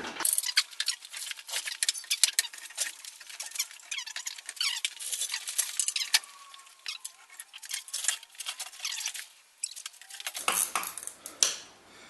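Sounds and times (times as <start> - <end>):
squeaking hoist chains: 0.2 - 10.4.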